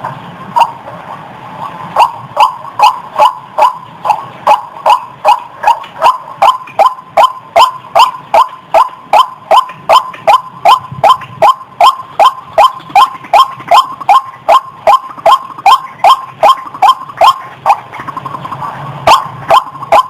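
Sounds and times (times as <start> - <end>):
waterhen calling: 1.6 - 20.0.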